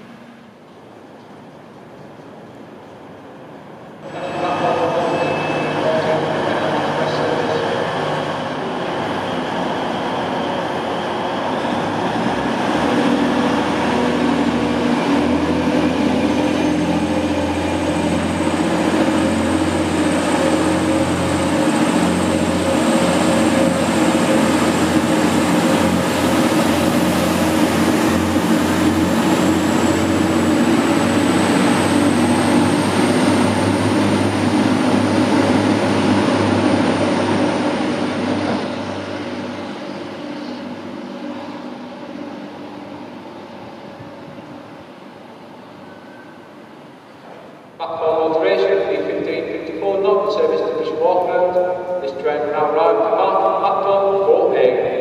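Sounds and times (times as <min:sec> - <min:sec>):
train diesel engines running: 0:00.0 - 0:55.0.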